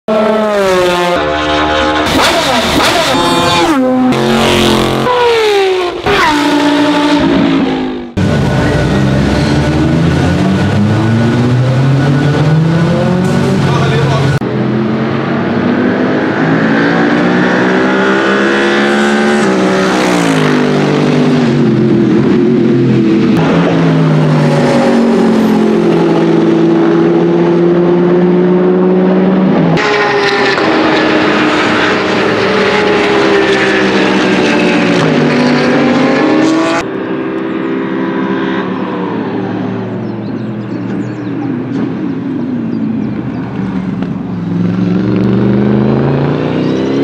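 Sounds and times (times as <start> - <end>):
racing car engines passing: 0.1 - 47.0.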